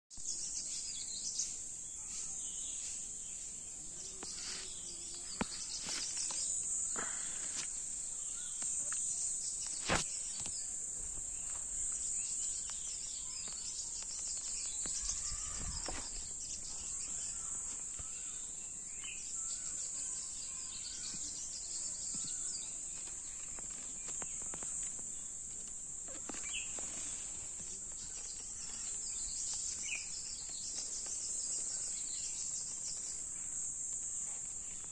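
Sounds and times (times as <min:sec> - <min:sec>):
bird chirps: 0:00.1 - 0:25.3, 0:26.1 - 0:34.9
insects droning: 0:00.3 - 0:34.9.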